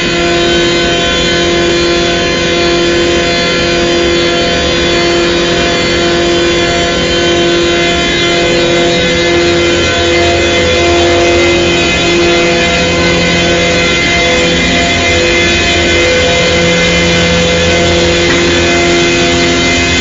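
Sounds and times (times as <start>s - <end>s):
air compressors whining: 0.0s - 20.0s.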